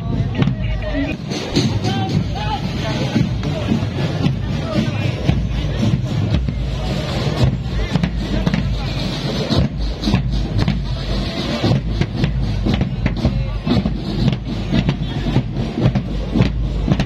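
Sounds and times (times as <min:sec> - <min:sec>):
marching bass drums beating: 0:00.0 - 0:17.0.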